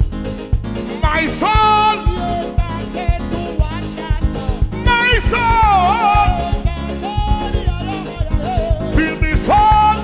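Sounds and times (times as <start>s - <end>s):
drum kit beat: 0.0s - 10.0s.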